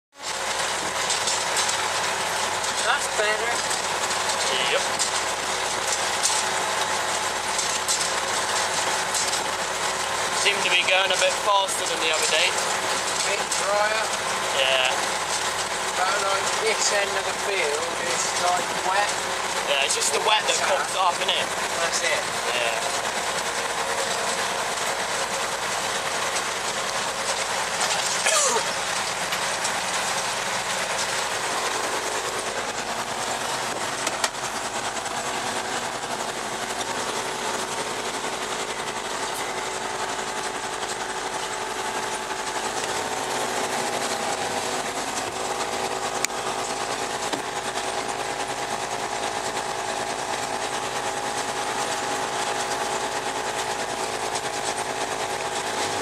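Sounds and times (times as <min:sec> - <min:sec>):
tractor diesel engine running: 0:00.1 - 0:56.0.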